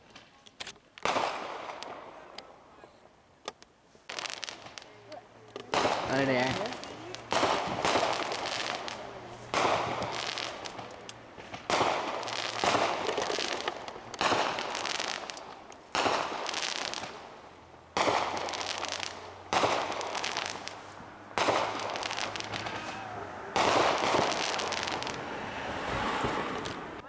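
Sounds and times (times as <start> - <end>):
fireworks bursting with crackle: 0.0 - 27.0.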